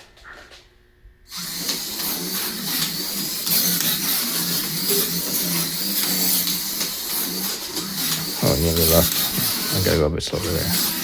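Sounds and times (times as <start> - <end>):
slot car motor whining: 1.3 - 11.0.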